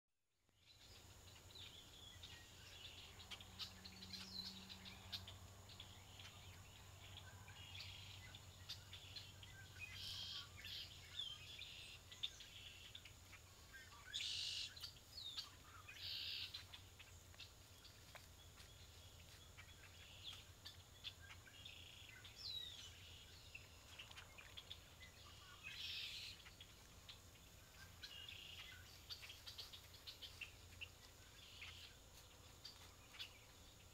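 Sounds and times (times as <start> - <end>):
wild birds chirping: 0.5 - 33.9.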